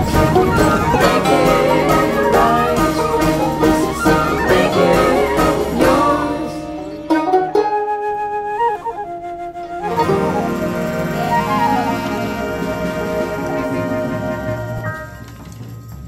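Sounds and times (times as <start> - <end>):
plucked strings: 0.0 - 8.9, 9.6 - 15.1
held flute-like tones: 0.0 - 15.5.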